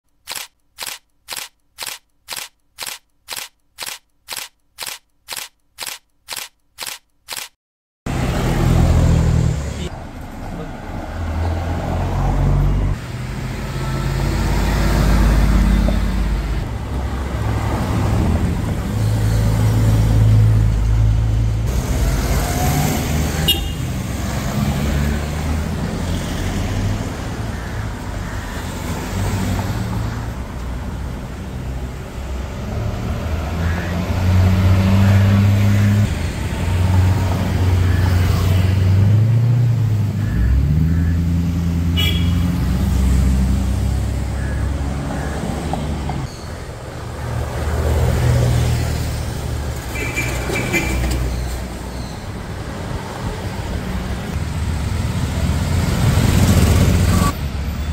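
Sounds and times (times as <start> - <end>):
cars driving past: 8.1 - 57.9.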